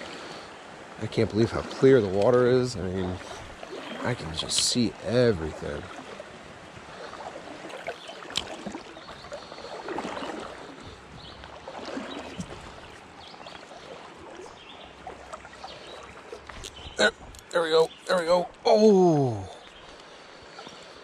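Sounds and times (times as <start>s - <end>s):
shallow river water running: 0.0s - 21.0s.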